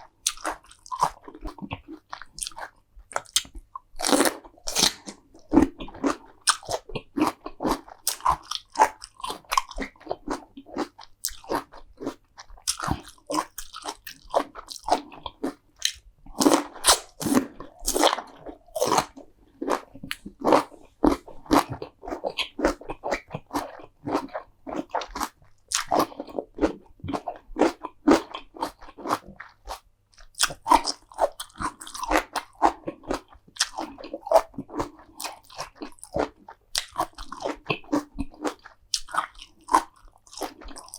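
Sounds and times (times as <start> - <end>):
crunchy chewing: 0.2 - 40.9.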